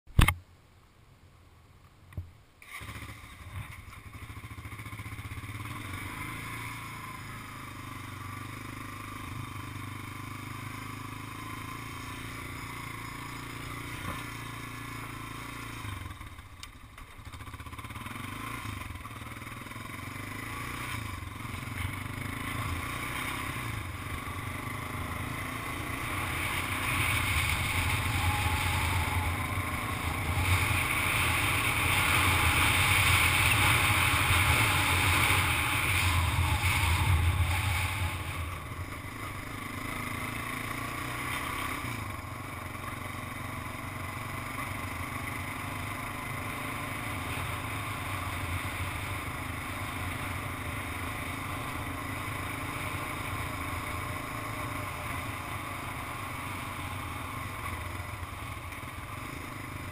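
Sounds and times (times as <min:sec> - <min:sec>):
atv engine humming: 0:02.1 - 0:59.9.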